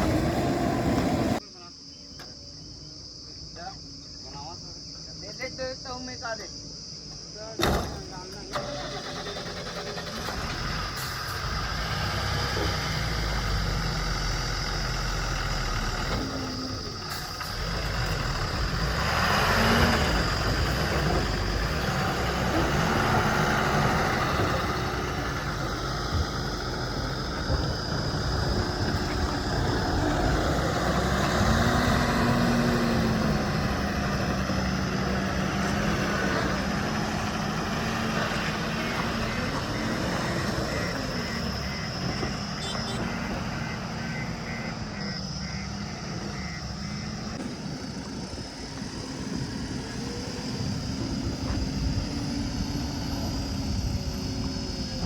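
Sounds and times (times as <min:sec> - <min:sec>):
heavy diesel engine running: 0:00.0 - 0:01.4, 0:07.6 - 0:55.0.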